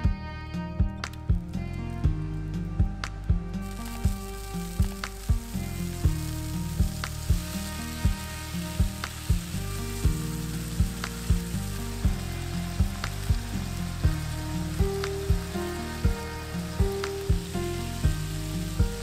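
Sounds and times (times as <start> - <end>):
background music with steady beat: 0.0 - 19.0
chicken sizzling in hot oil: 2.9 - 19.0.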